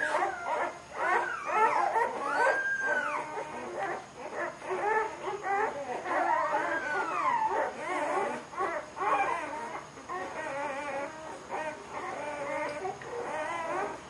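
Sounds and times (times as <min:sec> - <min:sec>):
puppies whimpering and yipping: 0:00.0 - 0:14.0.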